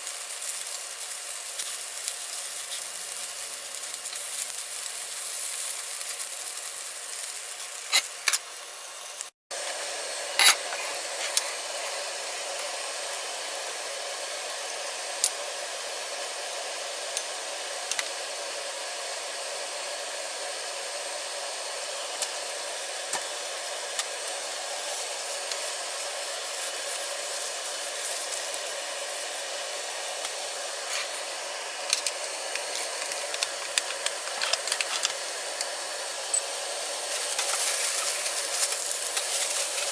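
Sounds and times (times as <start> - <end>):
cooking hiss on stove: 0.0 - 39.9.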